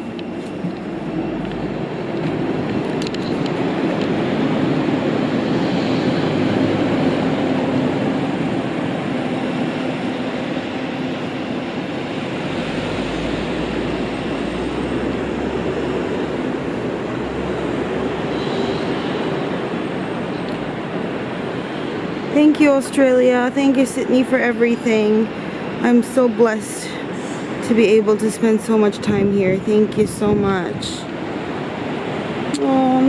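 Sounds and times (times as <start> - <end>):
moving vehicle rumble and hiss: 0.0 - 33.0.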